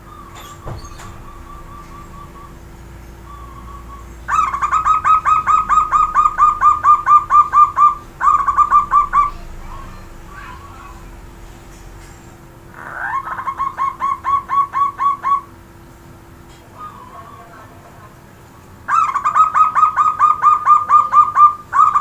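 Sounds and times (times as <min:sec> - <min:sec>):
dove cooing: 0:00.0 - 0:11.1, 0:12.7 - 0:15.6, 0:16.5 - 0:22.0.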